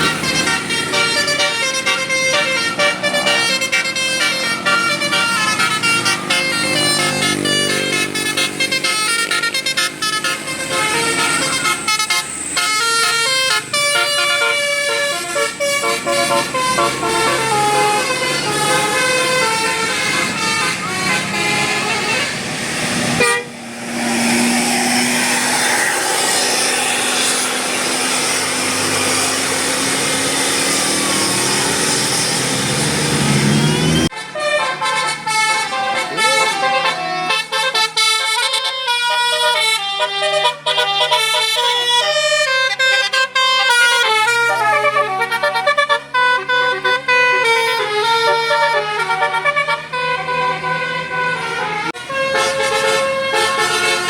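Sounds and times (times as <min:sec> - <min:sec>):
bus air horn playing a melody: 0:00.0 - 0:54.0.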